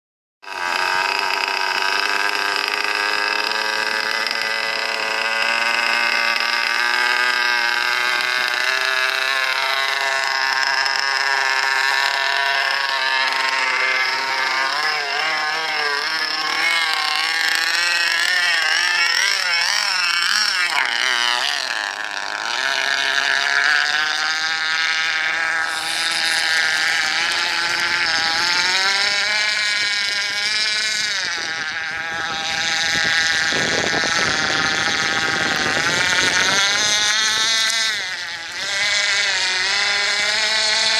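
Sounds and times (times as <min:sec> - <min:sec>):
model boat engine whining: 0:00.4 - 0:40.9.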